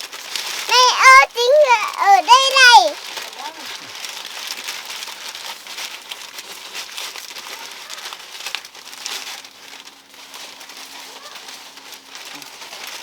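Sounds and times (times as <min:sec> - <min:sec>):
bag crinkling and rustling: 0:00.0 - 0:13.0.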